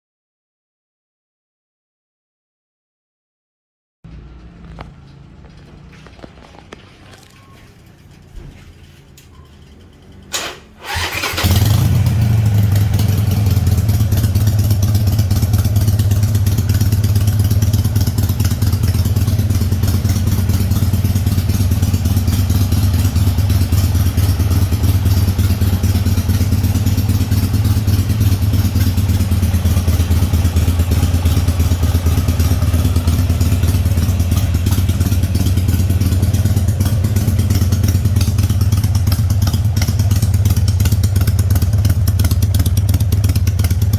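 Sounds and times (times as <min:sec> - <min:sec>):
motorcycle engine starting and idling: 0:04.1 - 0:43.9.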